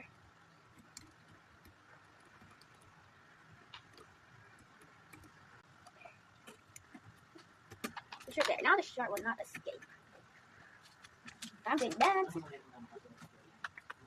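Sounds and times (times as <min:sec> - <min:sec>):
plastic building bricks clicking: 0:00.6 - 0:12.4, 0:13.1 - 0:14.0.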